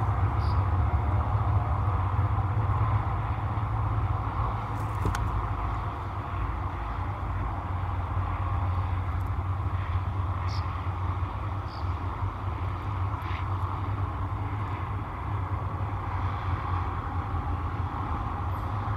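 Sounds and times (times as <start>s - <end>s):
outdoor rumble and hiss: 0.0s - 18.9s.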